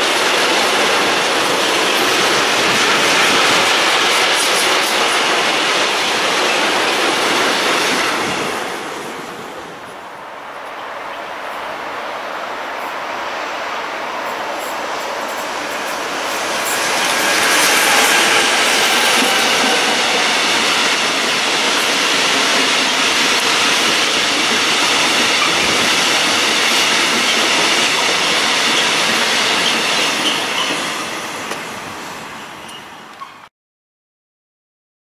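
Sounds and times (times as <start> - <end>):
train wheels rolling on rails: 0.0 - 33.5.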